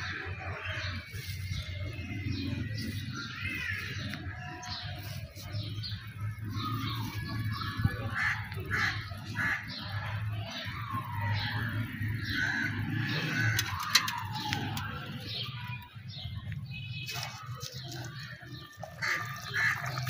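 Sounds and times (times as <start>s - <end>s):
birds calling and chirping: 0.0s - 20.0s.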